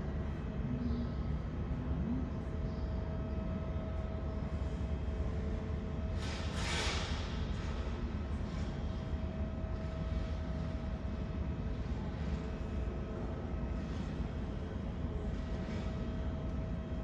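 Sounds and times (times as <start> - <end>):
faint jet engine whine: 0.0 - 17.0
jet engine rumble: 0.0 - 17.0.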